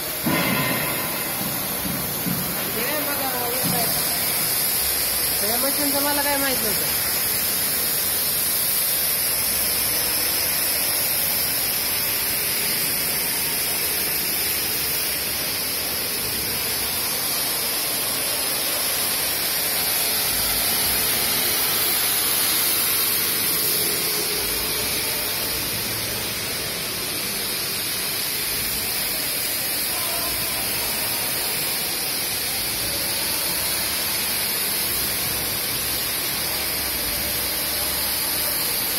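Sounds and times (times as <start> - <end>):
cutting torches hissing: 0.0 - 38.9.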